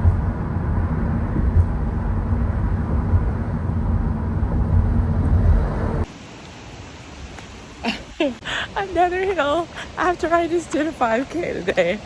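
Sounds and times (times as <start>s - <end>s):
road and engine rumble: 0.0s - 6.3s, 7.8s - 12.0s.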